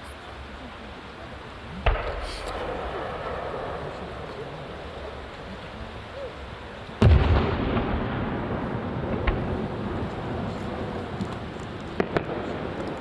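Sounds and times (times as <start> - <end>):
sharp firework crack: 1.8 - 13.0.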